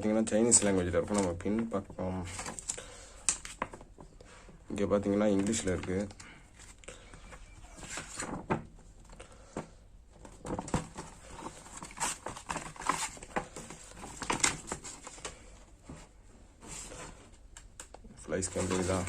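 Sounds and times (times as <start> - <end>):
paper pages rustling: 0.5 - 3.9, 5.3 - 9.1, 10.2 - 16.0, 16.6 - 19.0.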